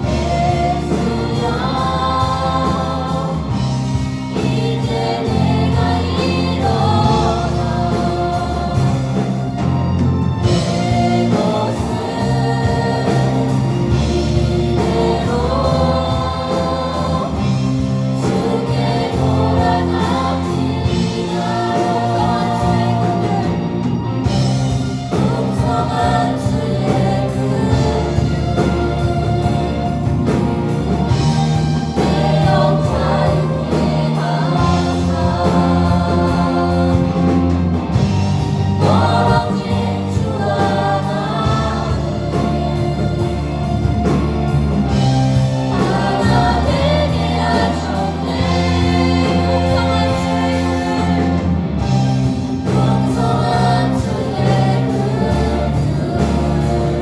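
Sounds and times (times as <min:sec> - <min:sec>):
group singing praise song: 0:00.0 - 0:57.0
instrumental accompaniment with beat: 0:00.0 - 0:57.0.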